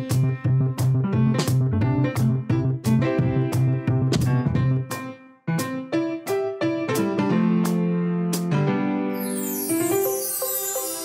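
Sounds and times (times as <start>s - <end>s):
keyboard music with steady beat: 0.0s - 11.0s.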